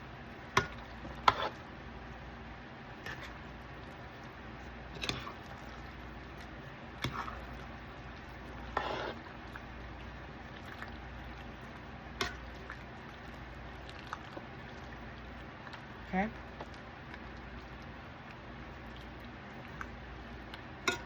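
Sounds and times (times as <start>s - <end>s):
wet squishing of sauce: 0.0s - 2.1s, 2.9s - 21.0s.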